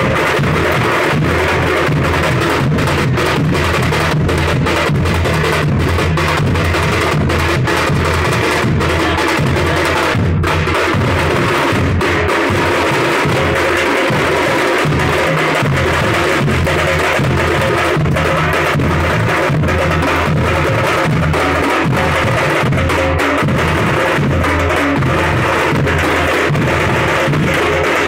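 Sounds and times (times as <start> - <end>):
deep bass drum strokes: 0.0 - 27.5
drum ensemble drumming: 0.0 - 28.0.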